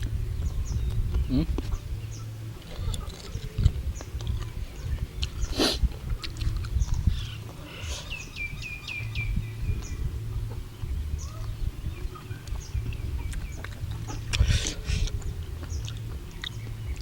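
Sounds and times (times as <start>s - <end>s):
low rumble: 0.0s - 17.0s
small bird chirping: 0.0s - 17.0s.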